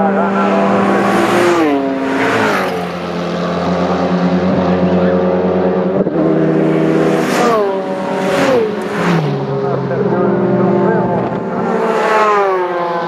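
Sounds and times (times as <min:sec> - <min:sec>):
racing cars passing at speed: 0:00.0 - 0:13.0.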